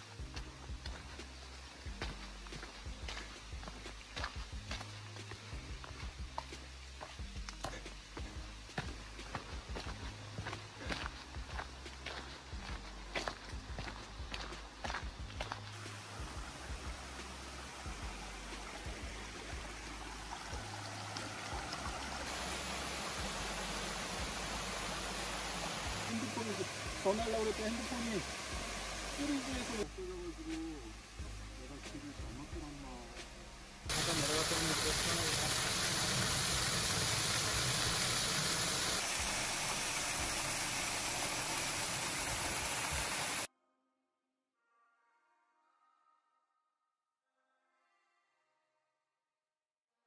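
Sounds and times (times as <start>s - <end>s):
stream running over rocks: 0.0s - 43.5s.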